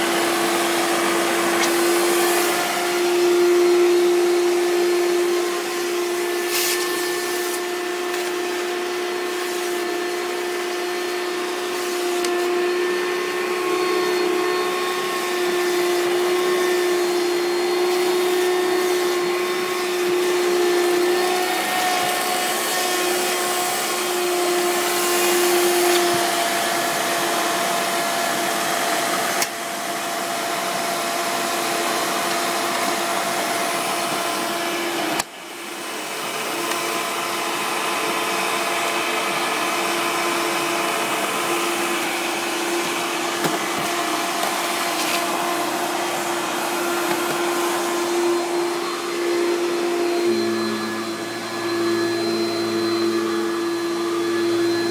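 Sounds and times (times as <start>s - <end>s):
upright vacuum cleaner running: 0.0s - 54.9s.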